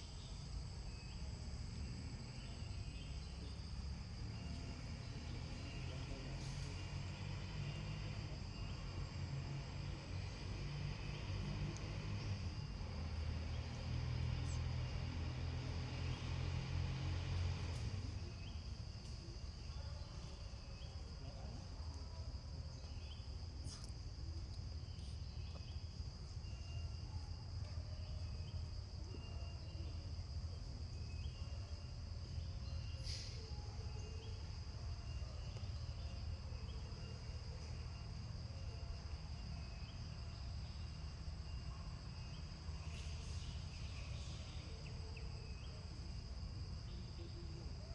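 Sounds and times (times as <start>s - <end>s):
insects droning: 0.0s - 47.9s
short insect chirps: 0.0s - 47.9s.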